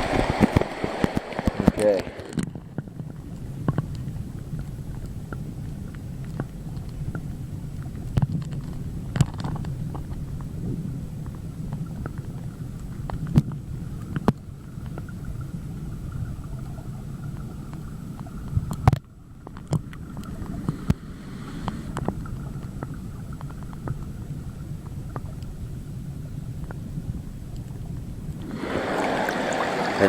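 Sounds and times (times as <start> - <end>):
muffled underwater river rumble: 0.0 - 30.0.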